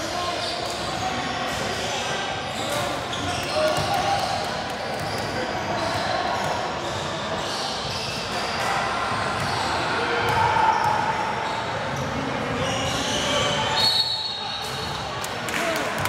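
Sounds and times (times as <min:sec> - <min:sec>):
murmur of voices: 0:00.0 - 0:16.0.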